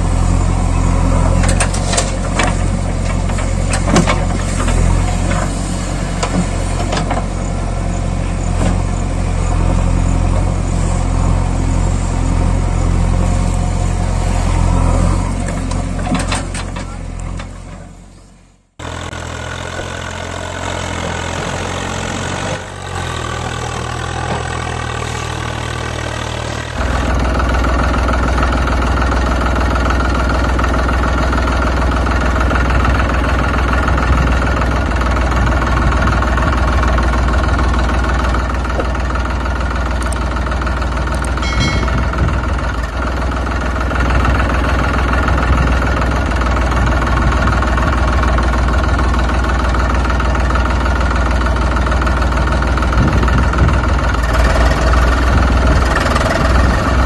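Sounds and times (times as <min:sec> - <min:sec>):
deep engine drone: 0:00.0 - 0:57.0
tractor engine running: 0:00.0 - 0:57.0.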